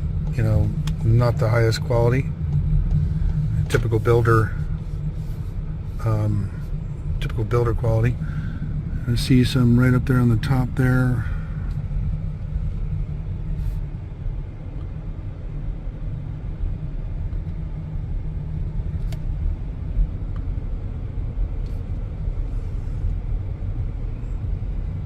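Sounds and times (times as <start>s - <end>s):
car interior driving rumble: 0.0s - 25.0s.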